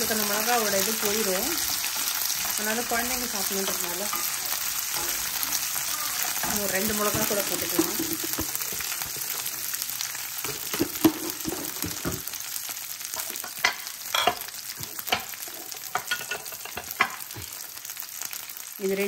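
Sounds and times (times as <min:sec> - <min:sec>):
garlic sizzling in oil: 0:00.0 - 0:19.0
oil popping and crackling: 0:00.0 - 0:19.0.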